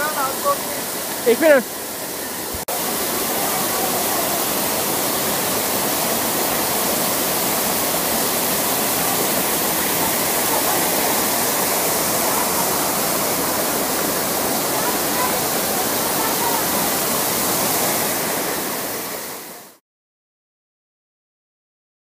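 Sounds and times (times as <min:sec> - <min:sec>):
waterfall rushing: 0:00.0 - 0:19.8.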